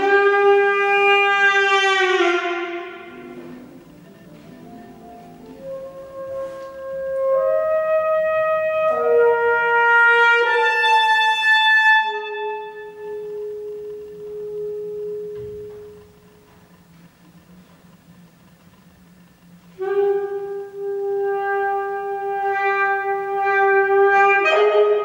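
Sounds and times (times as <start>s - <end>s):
alto saxophone playing: 0.0s - 16.7s, 19.7s - 25.0s.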